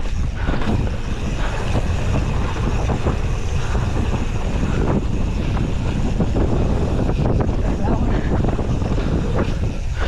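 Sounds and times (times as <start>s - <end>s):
bike rattles and bumps: 0.0s - 10.0s
wind buffeting microphone: 0.0s - 10.0s.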